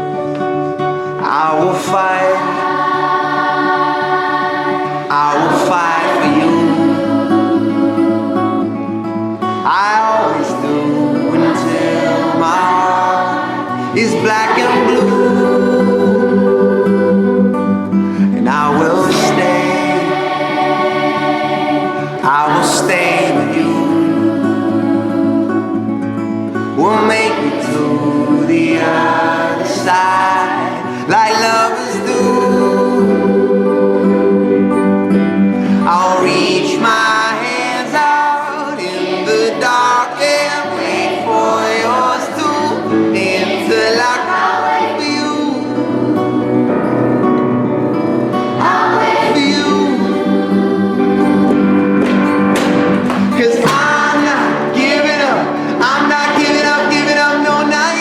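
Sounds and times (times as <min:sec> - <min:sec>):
song with sung vocals: 0:00.0 - 0:58.0.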